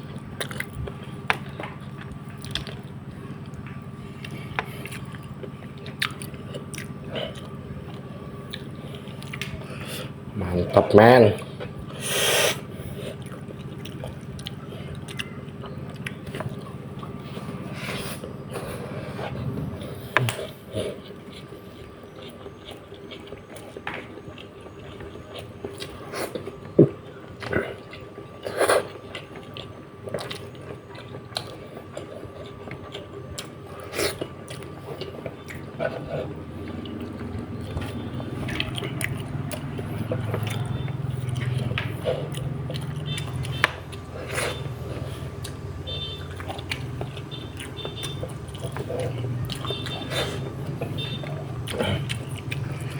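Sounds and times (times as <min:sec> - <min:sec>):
wet chewing and lip smacks: 0:00.1 - 0:09.9, 0:11.3 - 0:52.9.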